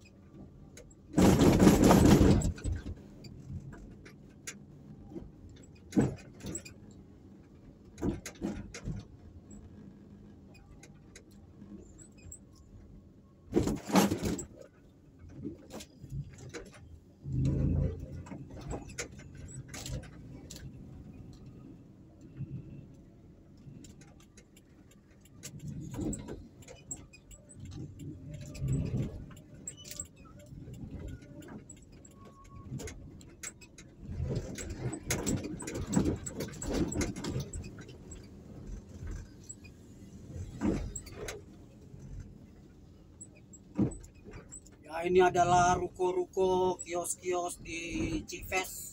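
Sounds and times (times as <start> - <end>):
car road noise rumble: 0.0 - 48.9
rattling and clicking in car cabin: 0.0 - 48.9.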